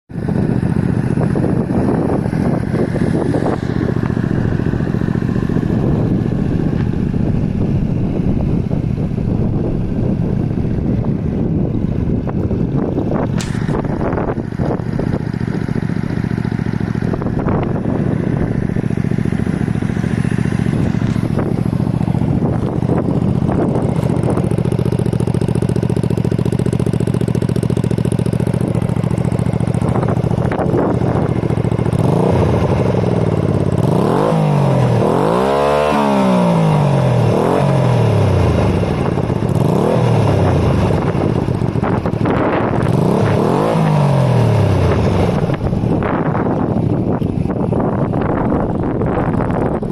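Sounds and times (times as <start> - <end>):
motorcycle engine running: 0.1 - 49.9.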